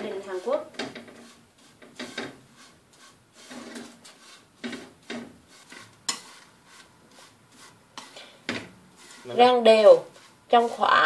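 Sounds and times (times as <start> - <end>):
chopsticks stirring in a dry pan: 0.0 - 11.0.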